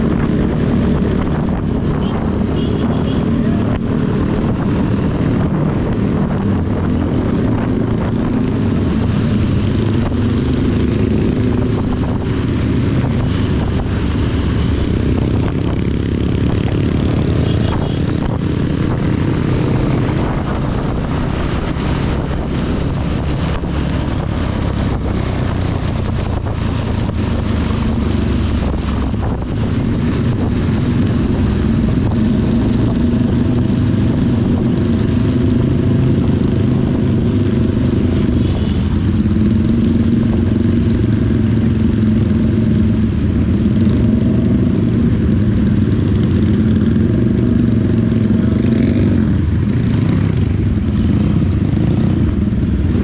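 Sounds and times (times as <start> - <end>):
motorcycle engine running: 0.0 - 53.0
tyres on wet road: 0.0 - 53.0
wind: 0.0 - 53.0.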